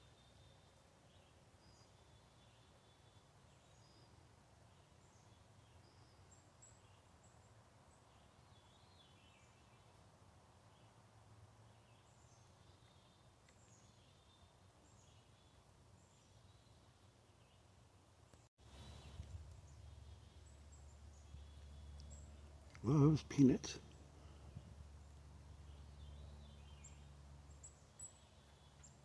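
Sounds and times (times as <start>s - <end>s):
faint bird chirps and calls: 0.0s - 11.0s, 11.6s - 29.0s.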